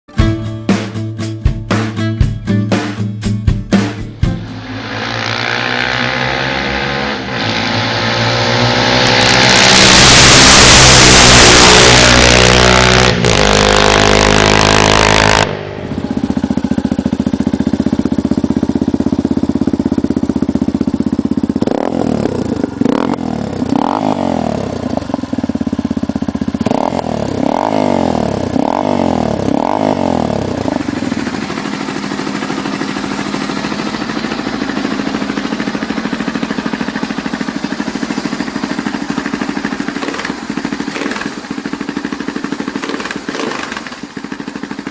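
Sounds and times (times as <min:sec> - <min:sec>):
dirt bike engine: 0:03.7 - 0:44.9.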